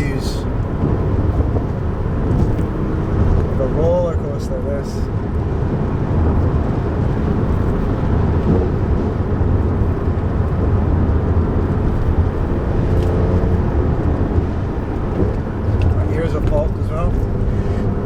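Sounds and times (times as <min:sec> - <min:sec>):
car engine rumble: 0:00.0 - 0:18.0
tyres on wet road: 0:00.0 - 0:18.0.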